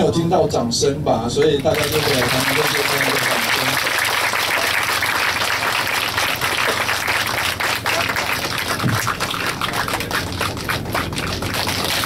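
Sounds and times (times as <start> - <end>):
audience applauding: 1.4 - 12.0.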